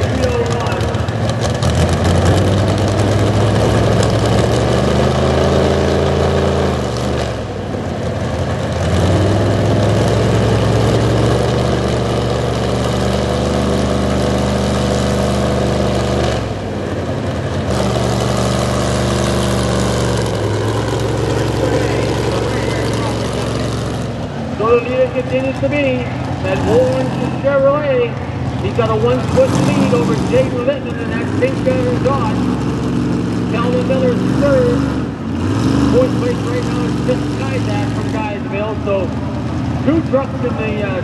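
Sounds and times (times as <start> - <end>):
truck engine running under load: 0.0 - 41.0.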